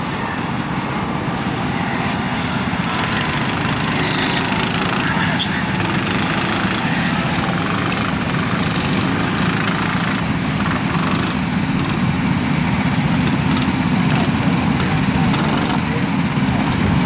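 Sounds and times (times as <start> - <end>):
go-kart engines droning: 0.0 - 17.0.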